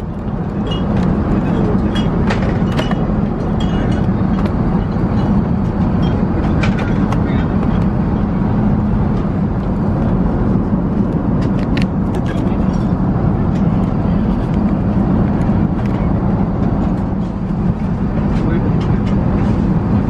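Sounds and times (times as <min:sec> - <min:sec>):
airplane cabin noise: 0:00.0 - 0:20.0.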